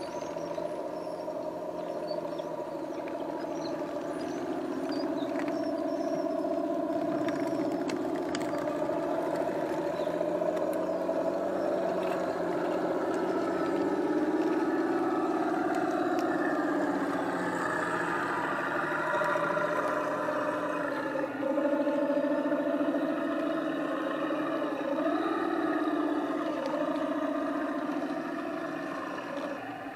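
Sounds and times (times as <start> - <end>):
model tanks driving: 0.0 - 29.9.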